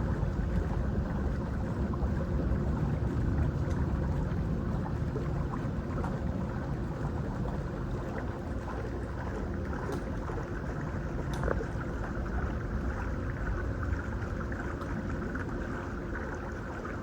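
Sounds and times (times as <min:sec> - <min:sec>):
faint steady hum: 0:00.0 - 0:17.0
low rumble of machinery: 0:00.0 - 0:17.0.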